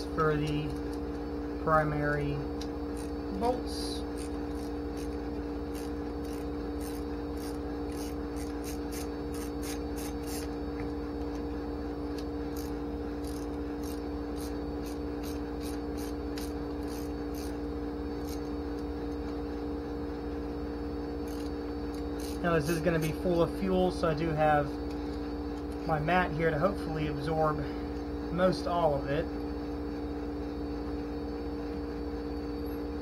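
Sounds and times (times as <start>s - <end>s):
steady mechanical hum: 0.0s - 33.0s.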